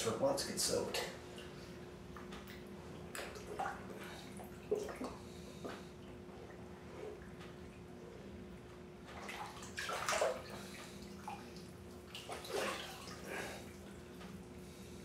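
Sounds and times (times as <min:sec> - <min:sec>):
bathwater sloshing and splashing: 0:01.2 - 0:14.9.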